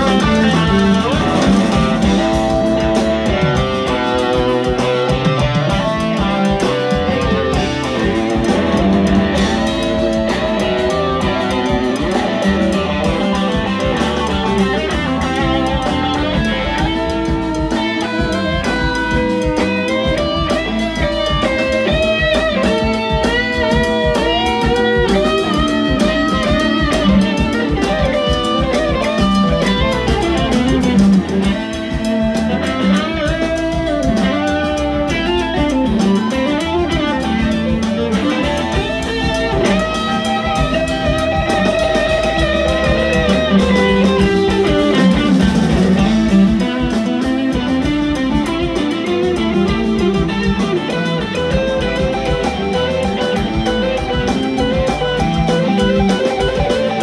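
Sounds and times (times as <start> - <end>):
electric guitar lead bending notes: 0.0 - 57.0
live rock band playing: 0.0 - 57.0.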